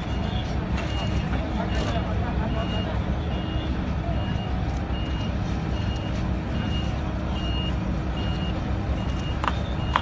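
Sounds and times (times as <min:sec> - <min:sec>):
low engine rumble: 0:00.0 - 0:10.0
reversing alarm beeping: 0:00.0 - 0:10.0.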